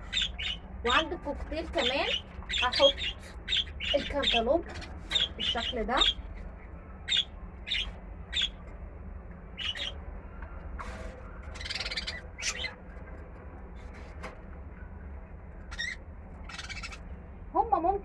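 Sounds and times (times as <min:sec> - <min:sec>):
birds chirping: 0:00.0 - 0:08.8, 0:09.4 - 0:13.2, 0:14.7 - 0:17.4
low hum: 0:00.0 - 0:18.0.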